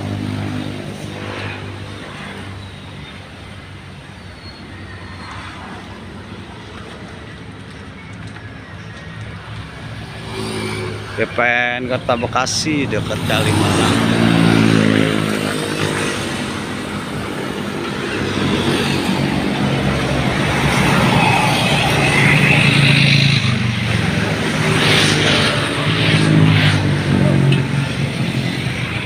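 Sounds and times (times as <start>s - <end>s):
traffic engines revving: 0.0s - 29.0s.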